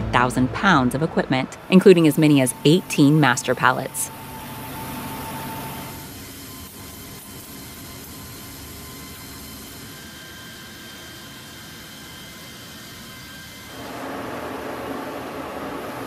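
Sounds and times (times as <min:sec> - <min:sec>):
aircraft machinery drone: 0:00.0 - 0:16.0
high steady whines: 0:00.0 - 0:16.0.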